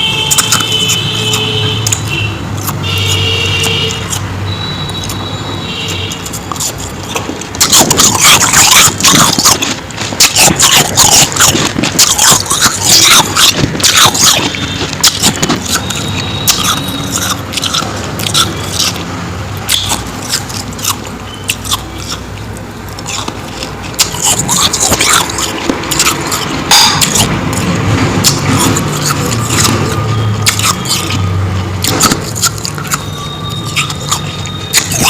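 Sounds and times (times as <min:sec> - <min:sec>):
chewing crunchy ice: 0:00.3 - 0:35.0.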